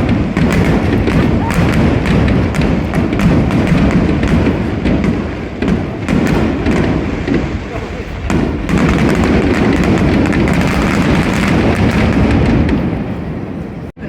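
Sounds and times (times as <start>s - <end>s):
firework sharp cracks: 0.0s - 14.0s
firework shells booming: 0.0s - 14.0s.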